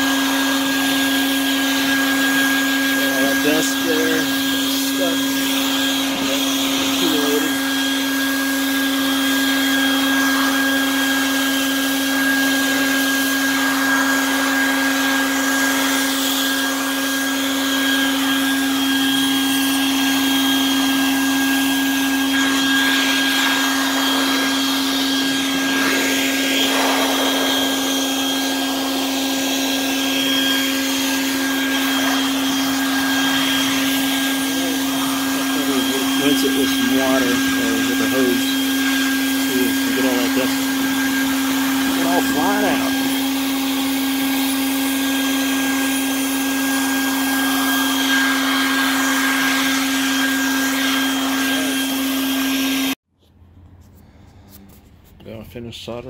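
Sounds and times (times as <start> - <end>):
vacuum cleaner blowing air: 0.0 - 53.0.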